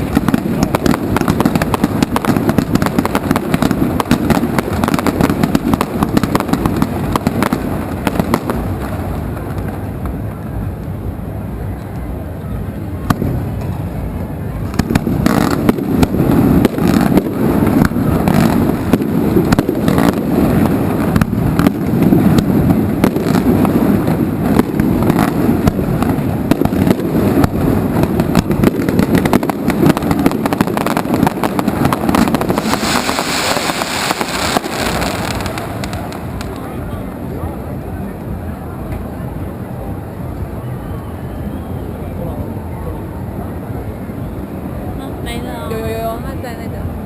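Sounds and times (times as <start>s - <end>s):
continuous rumble: 0.0s - 47.0s
fireworks bangs and crackling: 0.0s - 47.0s.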